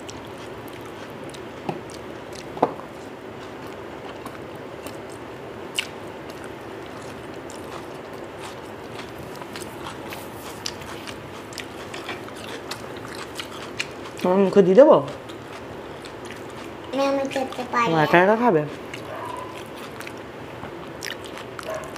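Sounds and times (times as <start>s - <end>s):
chewing with mouth smacks: 0.0s - 17.8s, 18.7s - 21.9s.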